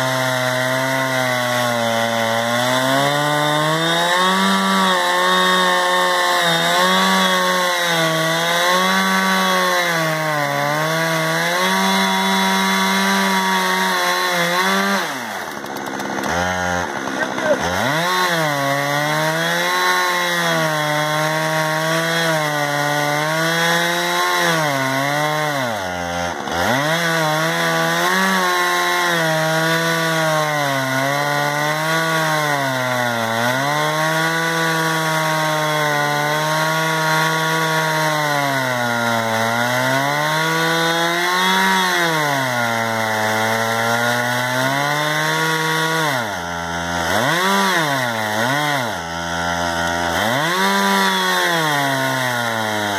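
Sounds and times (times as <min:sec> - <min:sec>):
chainsaw ripping through log: 0:00.0 - 0:52.9.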